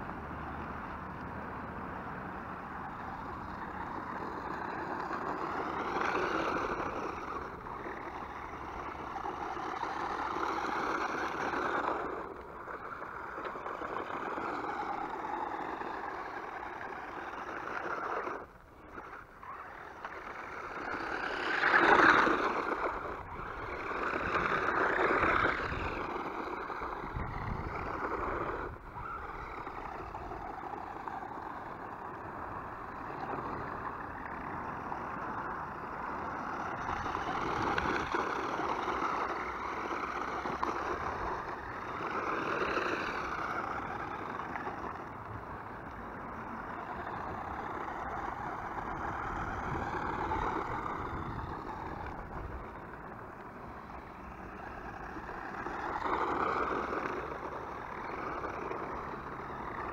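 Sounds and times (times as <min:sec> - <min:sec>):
toy car motor whine: 0:02.2 - 0:59.9.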